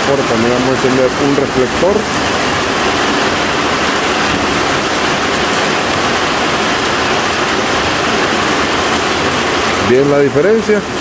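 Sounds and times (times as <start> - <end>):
heavy rain on a metal roof: 0.0 - 11.0.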